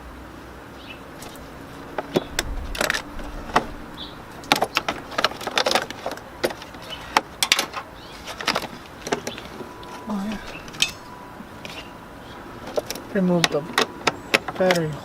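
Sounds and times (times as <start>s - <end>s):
hand tool and metal parts clicking: 1.2s - 11.9s, 12.6s - 15.0s.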